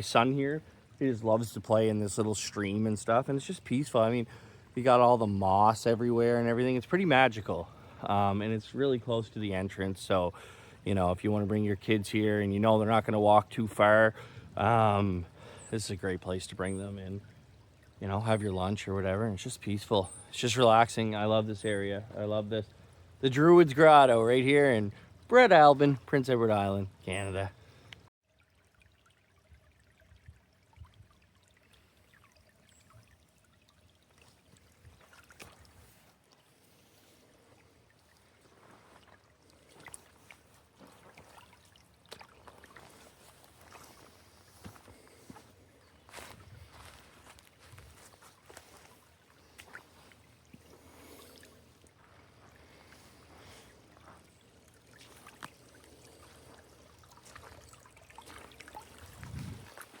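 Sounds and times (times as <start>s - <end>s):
light water drips: 0.0s - 60.0s
trickling stream: 0.0s - 60.0s.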